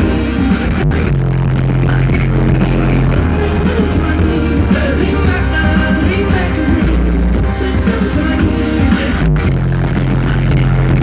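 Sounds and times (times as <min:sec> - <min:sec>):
deep bass note: 0:00.0 - 0:11.0
live band music: 0:00.0 - 0:11.0.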